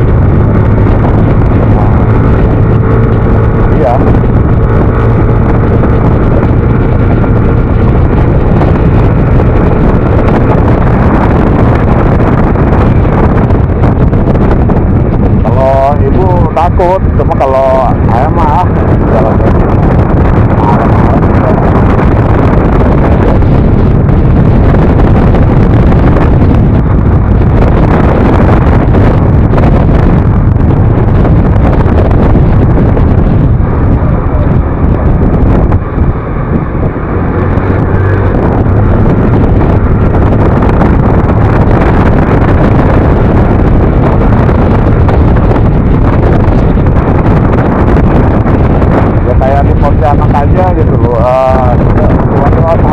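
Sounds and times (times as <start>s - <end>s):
road noise: 0.0s - 52.9s
wind rush on microphone: 0.0s - 52.9s.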